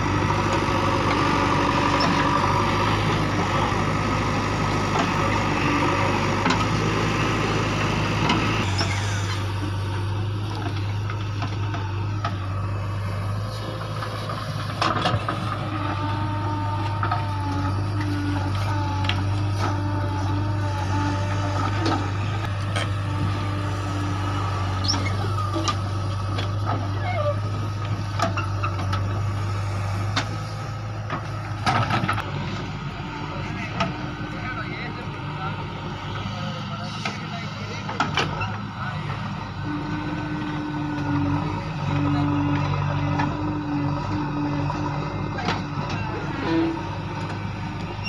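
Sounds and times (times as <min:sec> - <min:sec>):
diesel engines running: 0:00.0 - 0:48.0.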